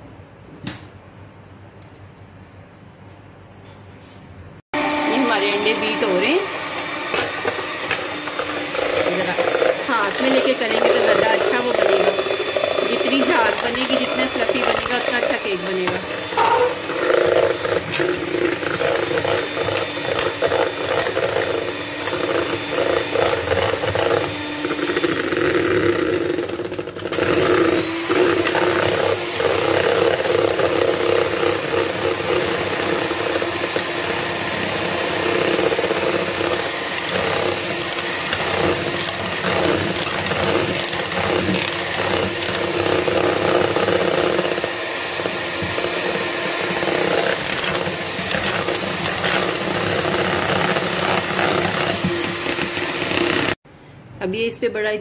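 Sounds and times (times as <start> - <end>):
hand mixer motor whir: 4.7 - 53.6.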